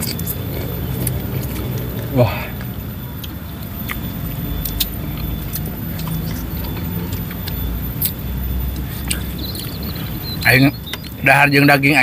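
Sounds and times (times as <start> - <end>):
chewing: 0.0 - 11.2.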